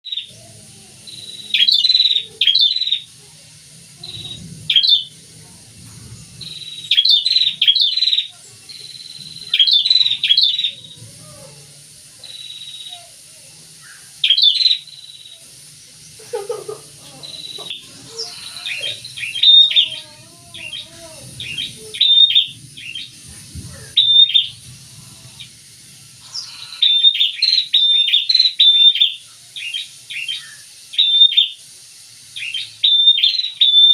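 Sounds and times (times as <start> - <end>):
birds chirping sharply: 0.0 - 31.6, 32.3 - 33.9.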